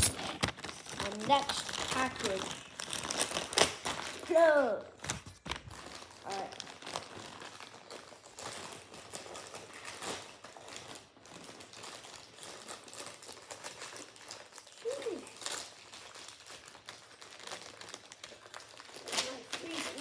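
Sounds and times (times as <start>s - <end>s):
package wrapping crinkling: 0.0s - 20.0s.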